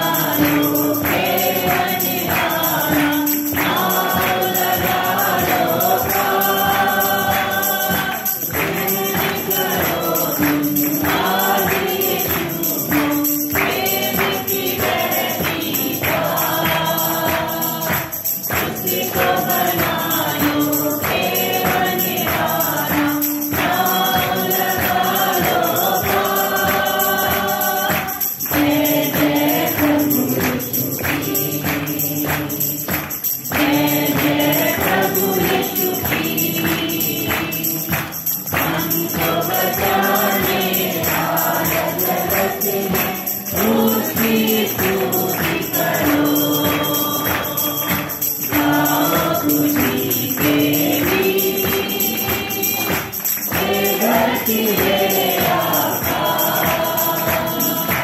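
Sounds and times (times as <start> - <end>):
group singing worship song: 0.0 - 58.0
steady percussion beat: 0.0 - 58.0.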